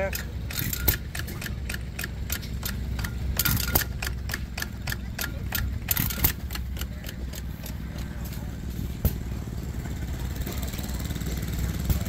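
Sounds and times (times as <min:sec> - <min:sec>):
low steady engine rumble: 0:00.0 - 0:12.0
rapid even engine clicking: 0:00.0 - 0:12.0.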